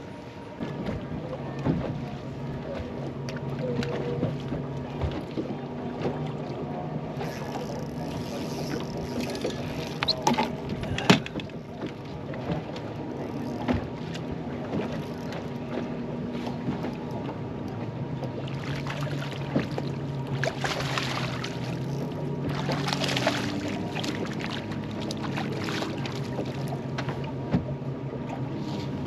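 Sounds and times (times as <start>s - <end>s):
wind: 0.0s - 29.0s
water slapping against boat hull: 0.5s - 29.0s.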